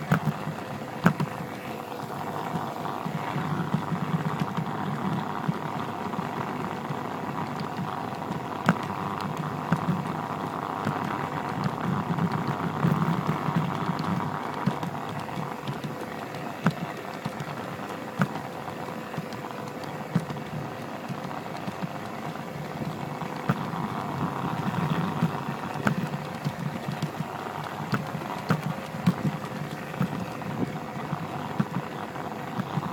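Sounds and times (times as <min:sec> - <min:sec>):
sharp clicks: 0:00.0 - 0:01.7, 0:02.4 - 0:32.9
model train running on track: 0:00.0 - 0:32.9.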